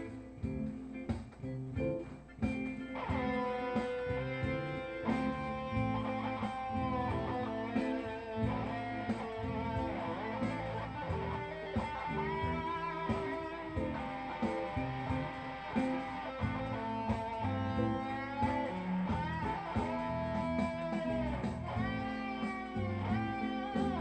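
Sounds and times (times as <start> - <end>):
bass line: 0.0 - 24.0
electric guitar lead: 0.0 - 24.0.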